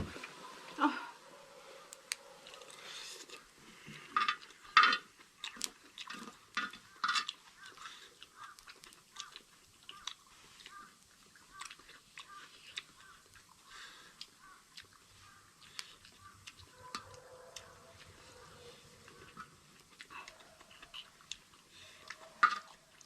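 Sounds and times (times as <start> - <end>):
chewing and crunching: 1.5 - 23.0.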